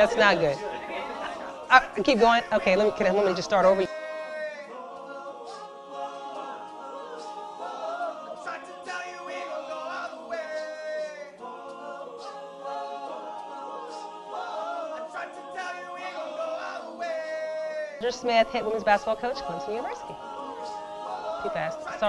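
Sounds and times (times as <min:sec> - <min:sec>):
voices singing in harmony: 0:00.0 - 0:22.0.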